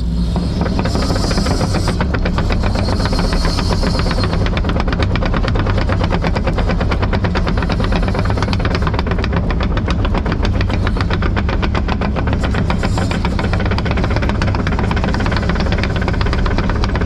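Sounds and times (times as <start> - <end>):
excavator diesel engine running: 0.0 - 17.0
excavator tracks clattering: 0.0 - 17.0.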